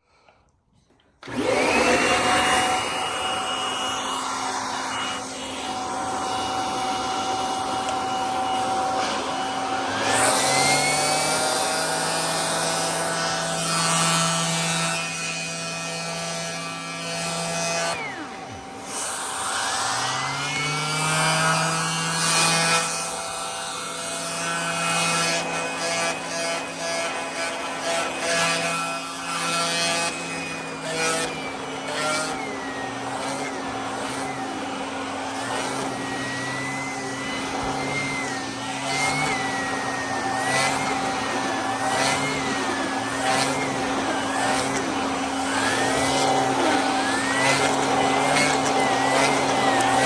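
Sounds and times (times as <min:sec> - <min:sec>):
vacuum cleaner motor whining: 0:00.0 - 0:50.0.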